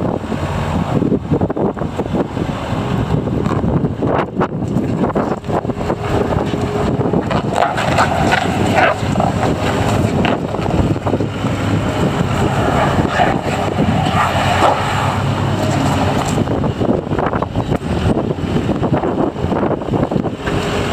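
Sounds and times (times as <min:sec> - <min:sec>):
diesel engine running: 0:00.0 - 0:20.9
wind buffeting microphone: 0:00.0 - 0:20.9.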